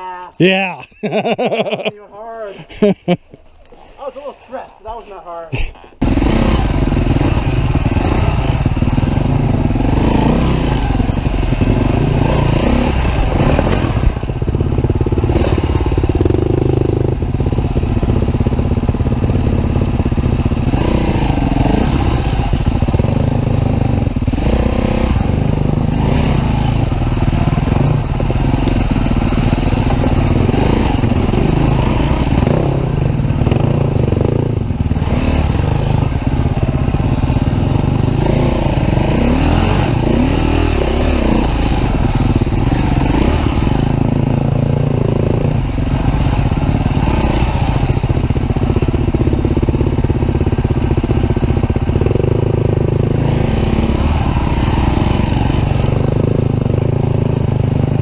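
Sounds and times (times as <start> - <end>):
dirt bike engine revving: 5.8 - 58.0.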